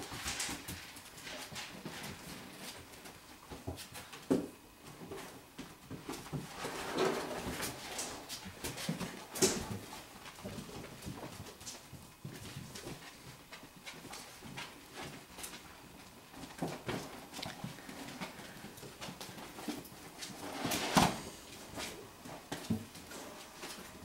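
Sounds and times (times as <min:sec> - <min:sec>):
puppy paws clicking on mat: 0:00.0 - 0:06.7, 0:07.4 - 0:20.4.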